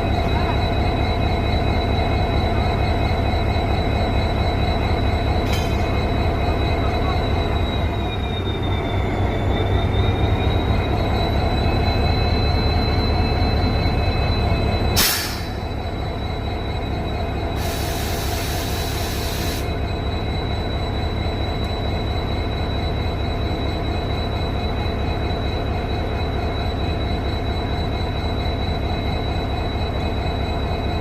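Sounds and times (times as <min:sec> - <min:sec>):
locomotive rumbling: 0:00.0 - 0:31.0.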